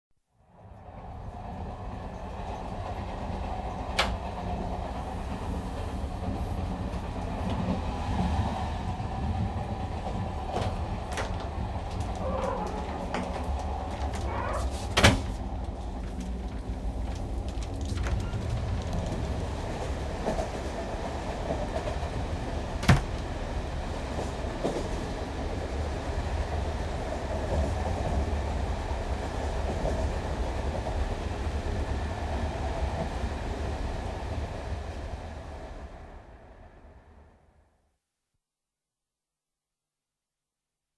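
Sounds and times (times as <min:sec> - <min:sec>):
train carriage rumbling on track: 0:00.6 - 0:36.8.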